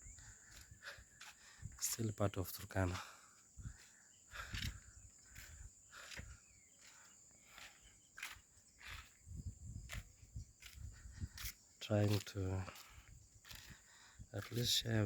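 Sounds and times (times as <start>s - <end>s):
footsteps crunching: 0.0s - 9.2s, 9.8s - 15.0s.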